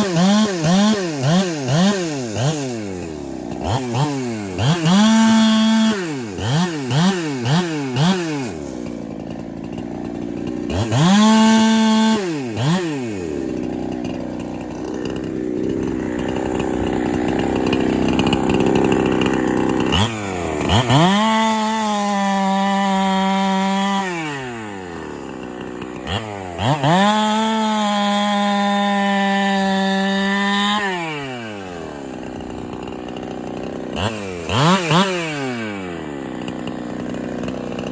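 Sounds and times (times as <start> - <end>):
chainsaw revving and idling: 0.0 - 37.9.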